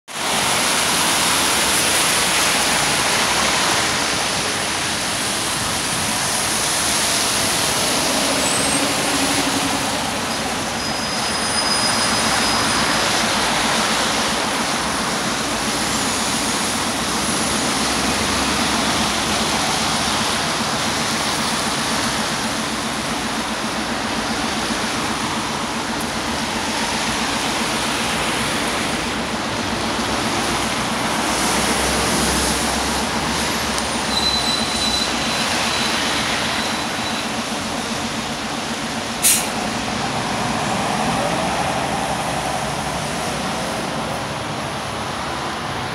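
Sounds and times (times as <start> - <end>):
bus pulling in: 0.1 - 45.9
tyres hissing on wet road: 0.1 - 45.9.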